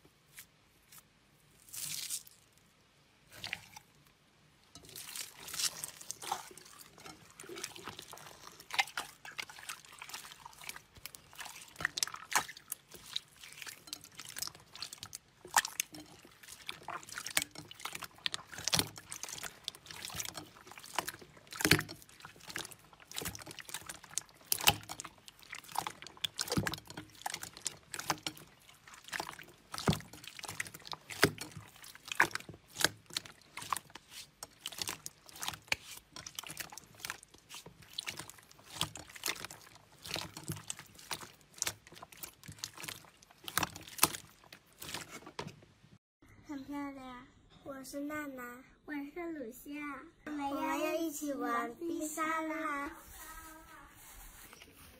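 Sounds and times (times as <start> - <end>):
wet slime squelching: 0.3 - 2.6, 3.3 - 46.0.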